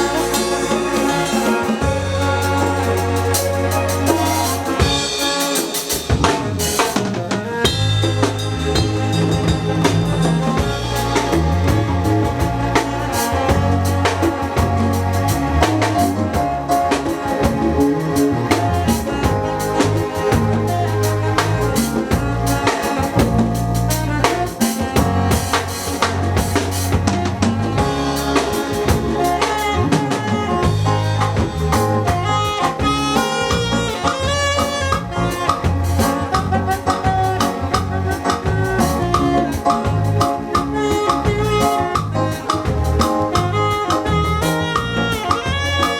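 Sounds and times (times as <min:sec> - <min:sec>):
bass line: 0:00.0 - 0:45.9
drum kit beat: 0:00.0 - 0:45.9
live band playing: 0:00.0 - 0:45.9
melodic lead line: 0:00.0 - 0:45.9.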